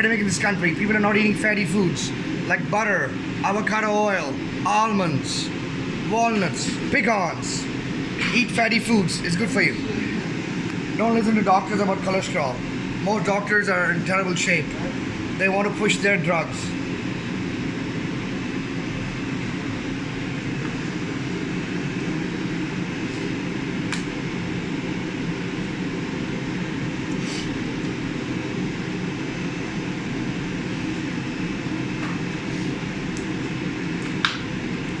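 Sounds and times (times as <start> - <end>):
steady mechanical drone: 0.0 - 35.0.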